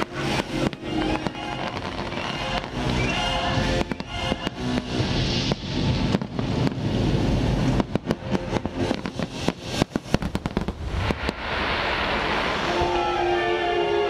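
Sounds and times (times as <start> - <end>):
fireworks bangs: 0.0 - 14.0
fireworks hiss: 0.0 - 14.0.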